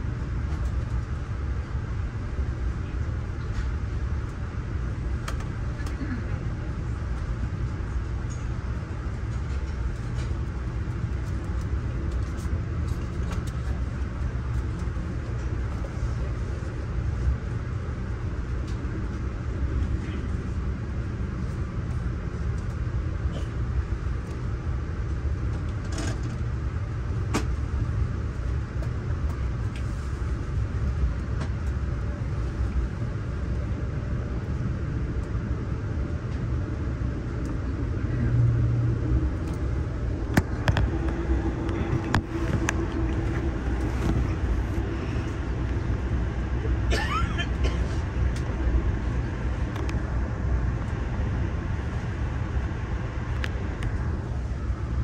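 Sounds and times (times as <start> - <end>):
train coach rumbling: 0.0 - 55.0.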